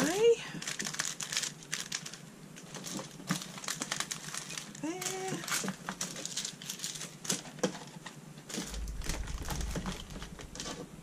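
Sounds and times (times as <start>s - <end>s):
plastic packets crinkling: 0.0s - 10.8s.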